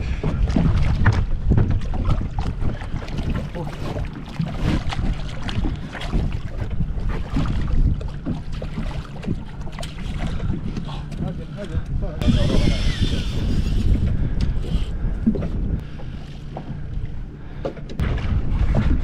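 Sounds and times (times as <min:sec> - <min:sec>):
wind buffeting microphone: 0:00.0 - 0:17.3, 0:17.9 - 0:19.0
water splashing against hull: 0:00.0 - 0:19.0.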